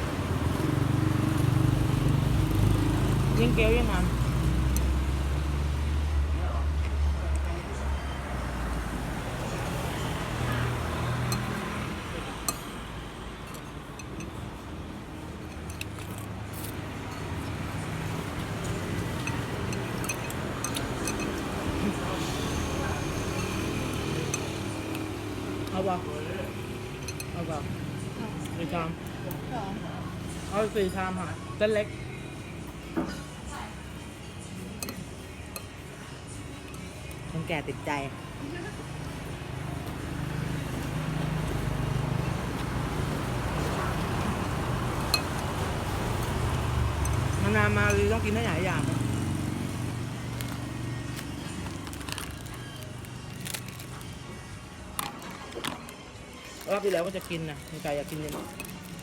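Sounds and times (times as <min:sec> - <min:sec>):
vehicle engine humming: 0:00.0 - 0:06.4, 0:07.0 - 0:32.9, 0:33.8 - 0:59.0
street noise: 0:00.0 - 0:59.0.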